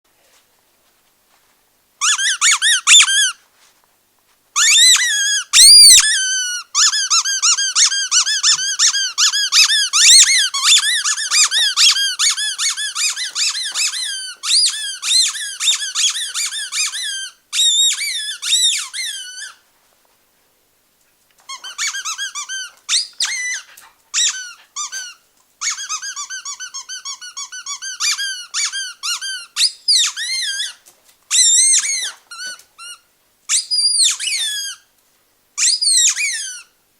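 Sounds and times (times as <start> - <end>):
squeaky rubber dog toy: 2.0 - 3.4, 4.6 - 19.6, 21.4 - 34.9, 35.6 - 36.8.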